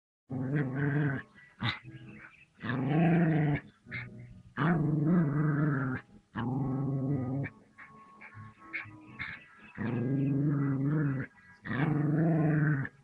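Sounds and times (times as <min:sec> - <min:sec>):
puppy growling: 0:00.3 - 0:13.0.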